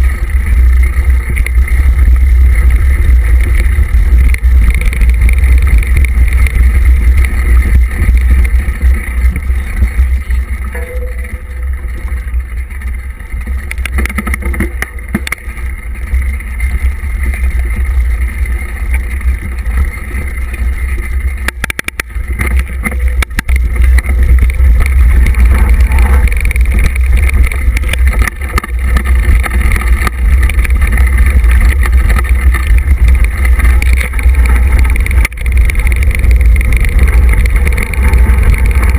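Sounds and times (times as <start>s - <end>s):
tyre and frame rattle: 0.0s - 38.9s
wind buffeting microphone: 0.0s - 38.9s.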